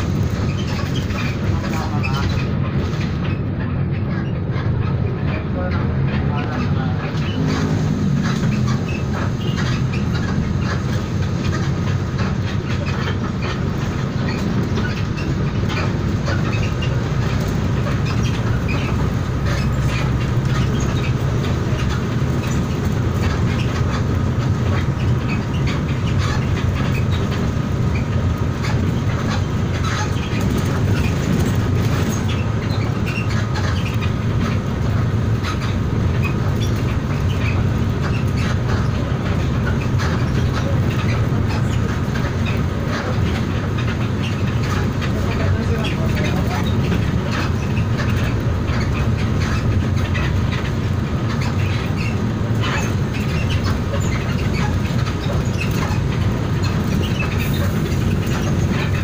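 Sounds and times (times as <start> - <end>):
train running gear rumble: 0.0 - 59.0
wheels clacking over rail joints: 0.0 - 59.0.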